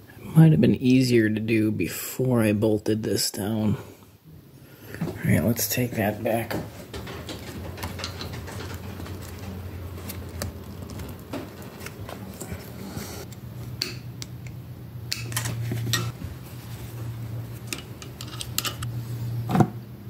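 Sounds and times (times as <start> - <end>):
low steady hum: 0.1 - 20.0.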